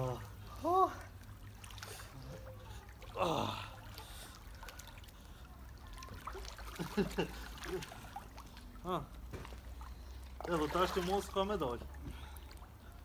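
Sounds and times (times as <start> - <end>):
water sloshing in pool: 0.0 - 13.0.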